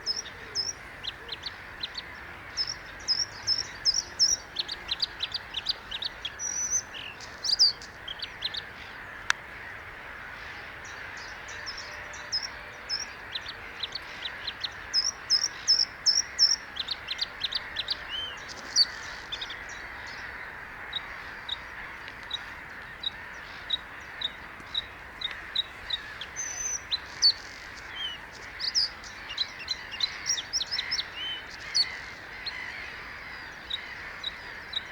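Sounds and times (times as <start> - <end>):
bird singing trills: 0.0 - 9.1, 10.9 - 21.7, 22.3 - 34.9.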